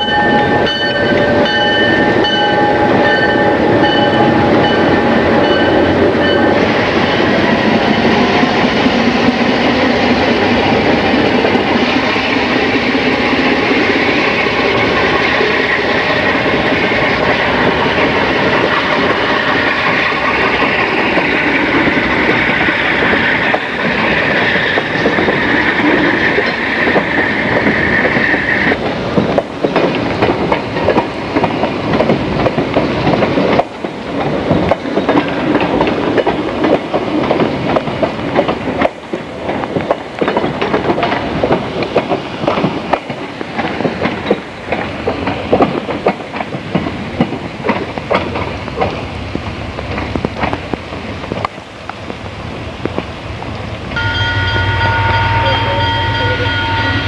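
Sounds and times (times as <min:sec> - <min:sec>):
wheels clicking over rail joints: 0:00.0 - 0:52.2
freight train passing: 0:00.0 - 0:57.0.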